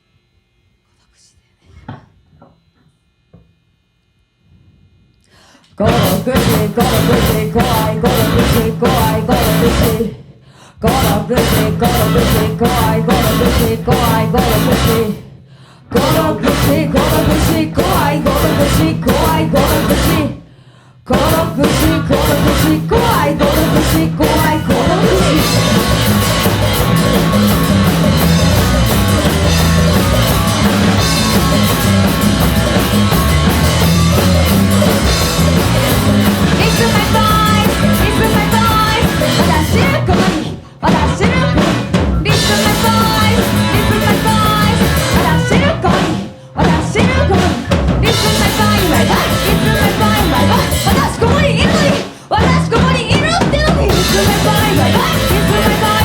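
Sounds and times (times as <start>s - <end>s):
punk rock band playing: 5.8s - 10.1s, 10.8s - 15.2s, 15.9s - 20.4s, 21.1s - 56.0s.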